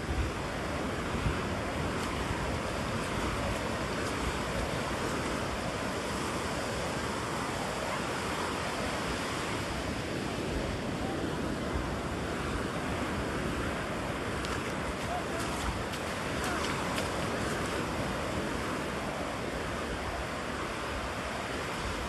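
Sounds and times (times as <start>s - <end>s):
ocean surf washing onto beach: 0.0s - 22.0s.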